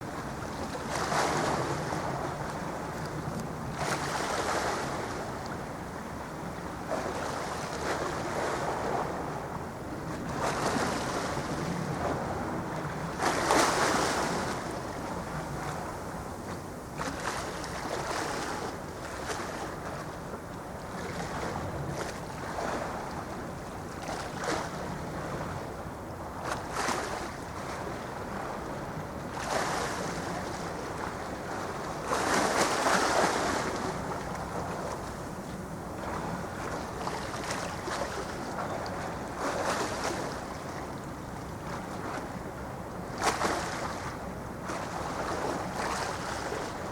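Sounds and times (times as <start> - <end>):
waves washing: 0.0 - 46.9
wind buffeting microphone: 0.0 - 46.9.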